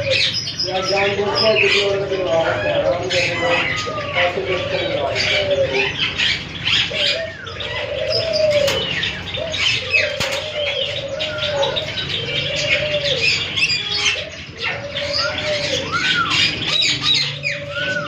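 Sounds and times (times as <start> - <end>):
birds chirping and twittering: 0.0 - 18.0
low cooing bird call: 0.0 - 18.0.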